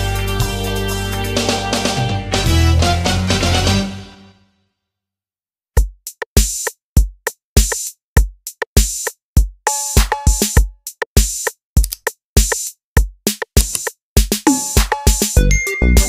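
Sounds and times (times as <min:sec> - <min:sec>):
electronic music drum beat: 0:00.0 - 0:02.7, 0:05.8 - 0:16.0.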